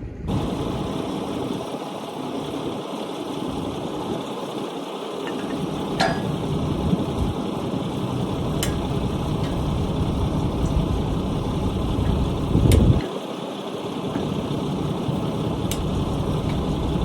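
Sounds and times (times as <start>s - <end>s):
low rumbling noise: 0.0s - 13.1s, 13.8s - 17.0s.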